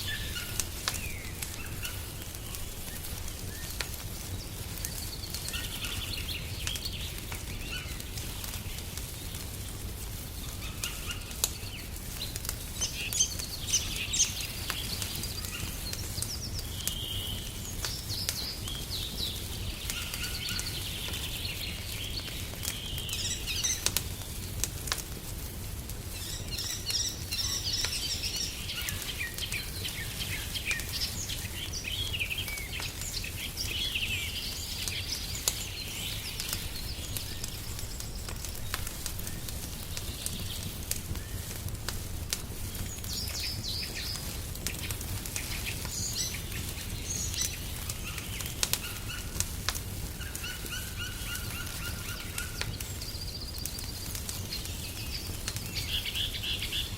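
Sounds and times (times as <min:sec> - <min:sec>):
songbirds chirping: 0:00.0 - 0:56.9
wood fire crackling: 0:00.0 - 0:56.9.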